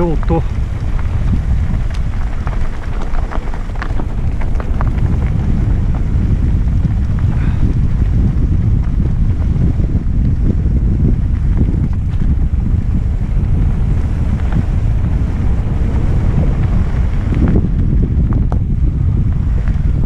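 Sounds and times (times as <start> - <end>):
bike clicks and rattles: 0.0 - 20.0
tyres rumbling on dirt: 0.0 - 20.0
wind buffeting microphone: 0.0 - 20.0.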